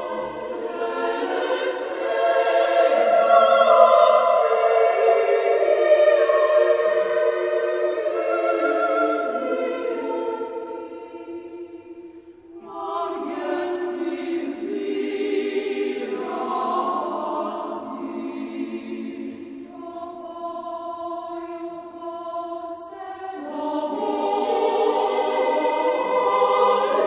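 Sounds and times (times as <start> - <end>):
choir singing sacred chant: 0.0 - 27.0.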